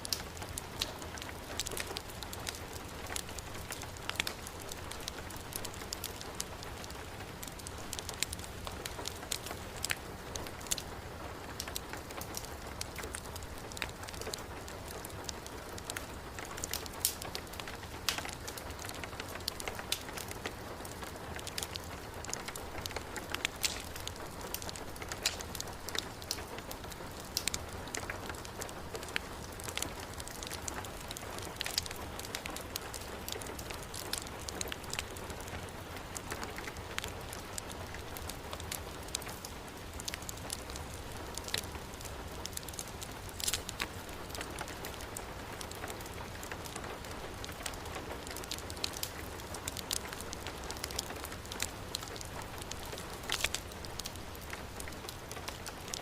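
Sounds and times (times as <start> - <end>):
heavy rain falling: 0.0 - 56.0
wood fire crackling: 0.0 - 56.0.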